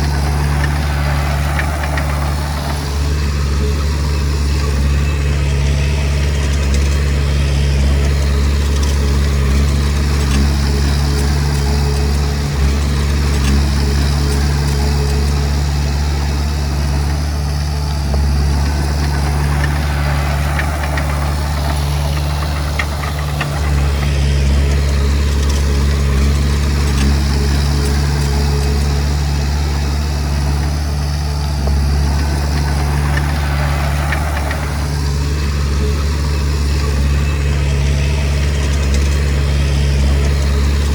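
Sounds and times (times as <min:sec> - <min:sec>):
bulldozer diesel engine running: 0:00.0 - 0:40.9
rough grinding noise: 0:00.0 - 0:40.9.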